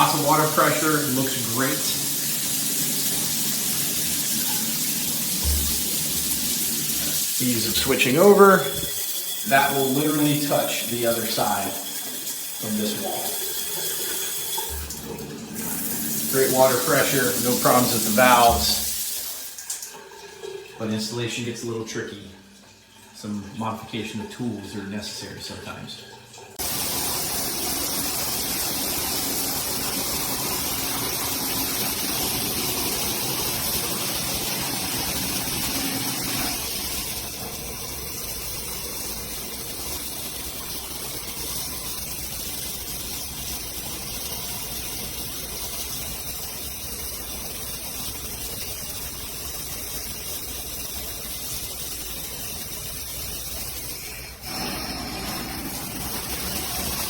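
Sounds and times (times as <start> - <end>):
shower spraying water: 0.0 - 22.1, 26.6 - 57.0.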